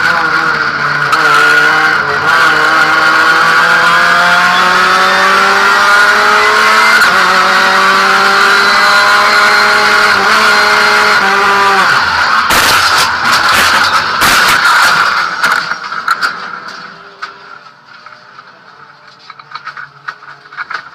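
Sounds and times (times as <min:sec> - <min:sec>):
race car engine at full throttle: 0:00.0 - 0:20.9.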